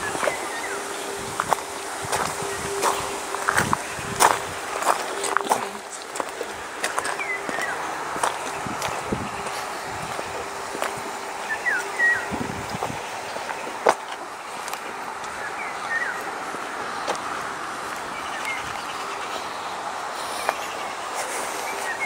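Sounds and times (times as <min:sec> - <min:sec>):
small birds chirping: 0:00.0 - 0:22.0
steady background hiss: 0:00.0 - 0:22.0.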